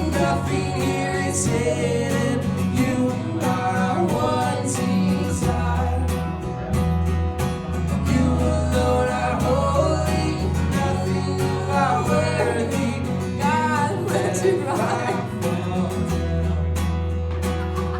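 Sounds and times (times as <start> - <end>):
person singing: 0.0 - 6.3, 8.0 - 16.1
low bass notes: 0.0 - 17.9
strummed guitar: 0.0 - 17.9.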